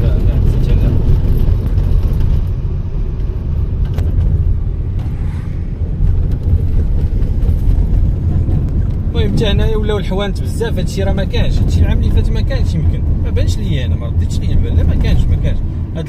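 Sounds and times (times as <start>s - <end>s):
car driving on road: 0.0s - 16.0s.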